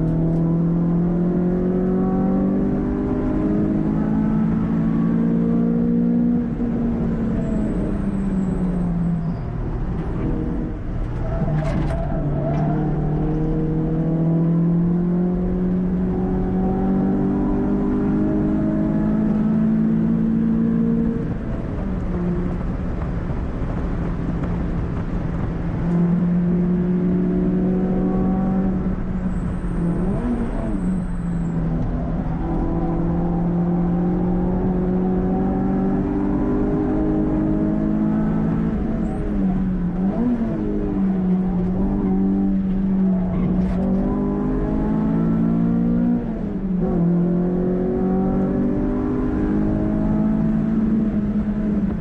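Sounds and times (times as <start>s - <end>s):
car engine pulling hard: 0.0s - 52.0s.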